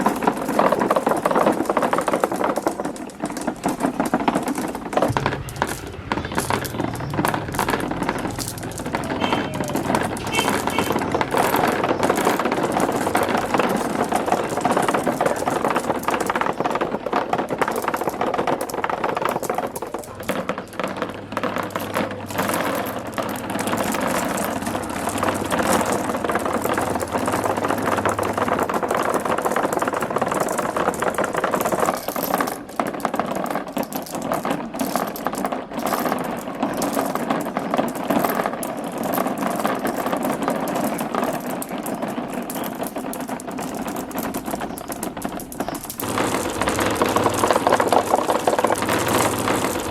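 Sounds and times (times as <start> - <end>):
marbles rattling down tracks: 0.0 - 49.9.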